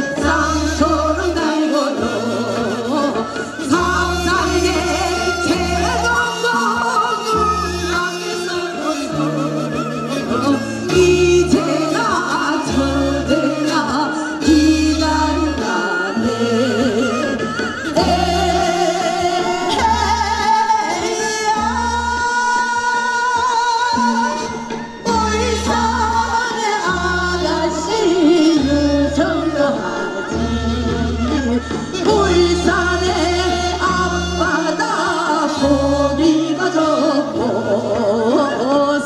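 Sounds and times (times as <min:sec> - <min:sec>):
amplified instrumental accompaniment: 0:00.0 - 0:39.0
women singing folk songs: 0:00.0 - 0:39.0.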